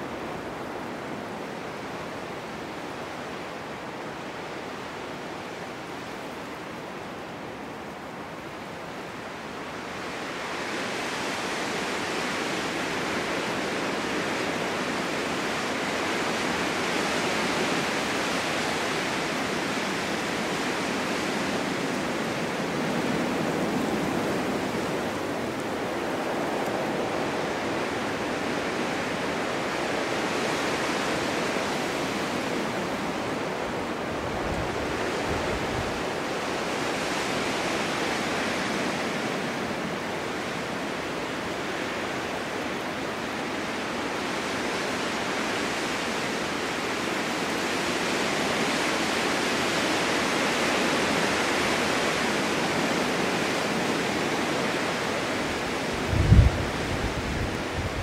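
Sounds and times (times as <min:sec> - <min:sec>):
snowstorm wind rushing: 0:00.0 - 0:58.0.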